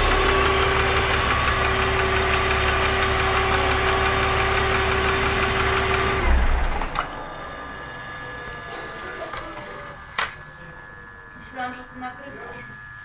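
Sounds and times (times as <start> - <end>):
engine stopping thud: 0.0 - 11.5
car engine running: 0.0 - 12.6
intake whine: 0.0 - 13.0.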